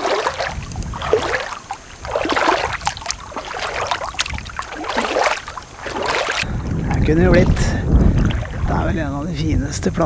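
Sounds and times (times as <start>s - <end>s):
feet splashing in shallow water: 0.0s - 9.2s.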